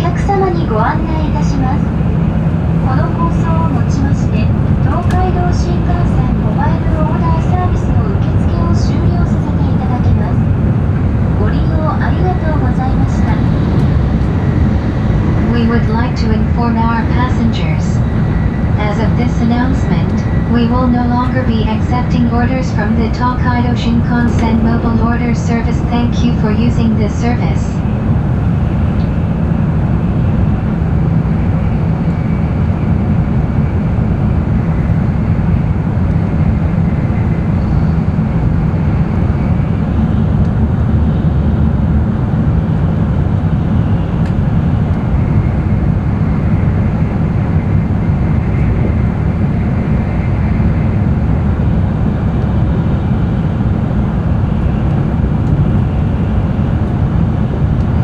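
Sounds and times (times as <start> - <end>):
faint high whine: 0.0 - 58.0
train cabin rumble: 0.0 - 58.0.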